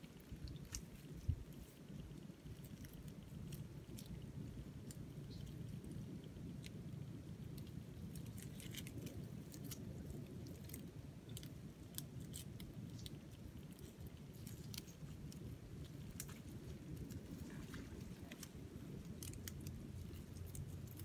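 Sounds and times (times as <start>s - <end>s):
low steady rumble: 0.0s - 21.0s
small clicks and crackles: 0.0s - 21.0s.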